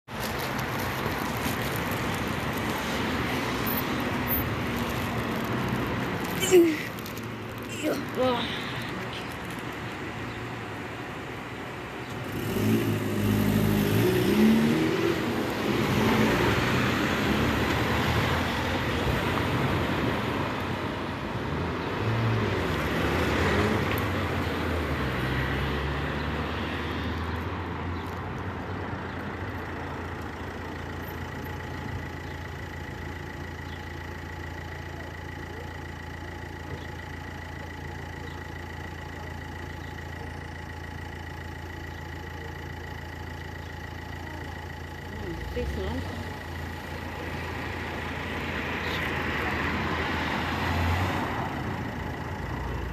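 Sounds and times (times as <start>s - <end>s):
engine hum: 0.0s - 52.9s
vehicles driving past: 0.0s - 52.9s.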